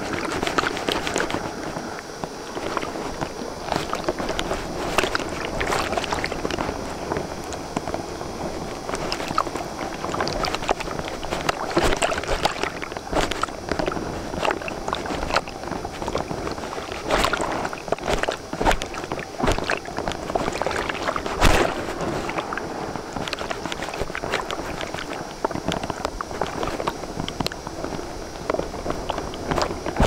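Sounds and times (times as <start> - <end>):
board slapping on waves: 0.0 - 30.0
rush of water and wind: 0.0 - 30.0.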